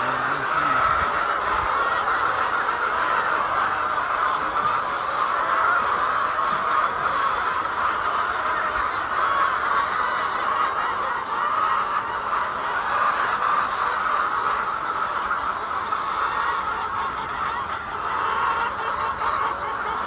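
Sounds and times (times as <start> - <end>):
hens clucking and calling: 0.0 - 20.0.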